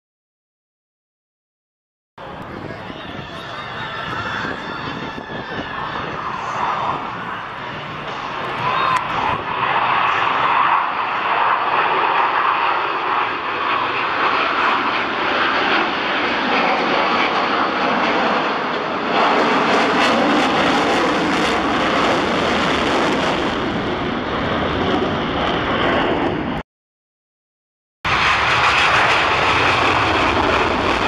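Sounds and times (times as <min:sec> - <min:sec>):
jets flying past: 0:02.3 - 0:26.6, 0:28.1 - 0:31.0.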